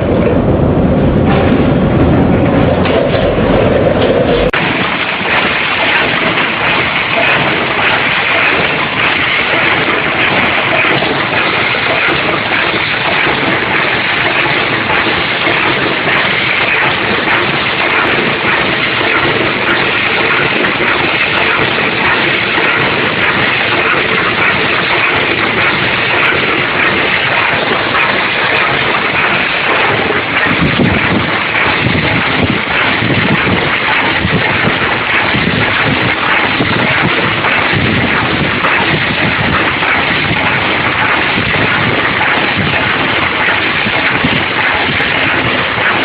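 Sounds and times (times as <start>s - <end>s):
packing machinery running: 0.0s - 46.0s.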